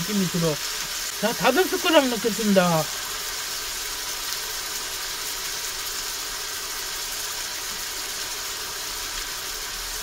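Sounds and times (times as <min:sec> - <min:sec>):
food hissing in a pan: 0:00.0 - 0:10.0
kitchen appliance hum: 0:00.0 - 0:10.0.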